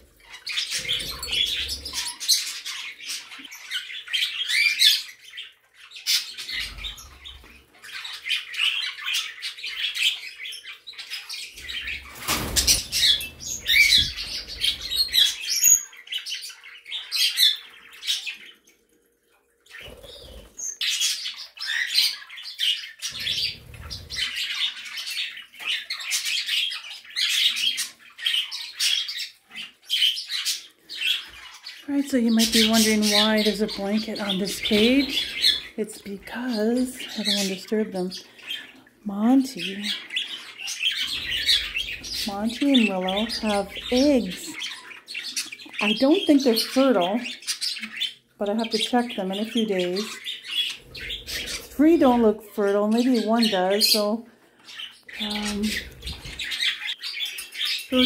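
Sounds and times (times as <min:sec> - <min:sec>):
small birds chirping and chattering: 0:00.0 - 0:58.0.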